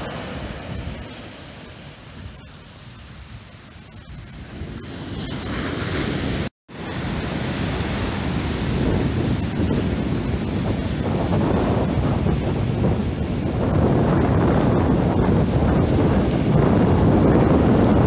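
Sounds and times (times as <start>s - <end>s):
surf breaking on sand: 0.0s - 18.0s
wind buffeting microphone: 0.0s - 18.0s.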